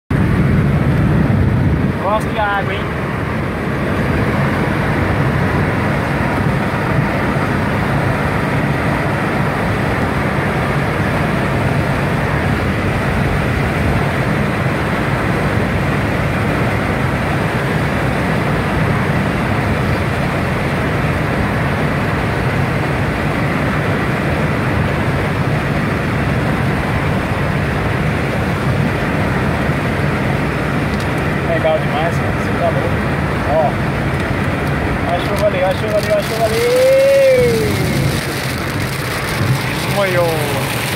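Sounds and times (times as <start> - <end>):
engine drone: 0.1 - 40.9
wind noise: 0.1 - 40.9.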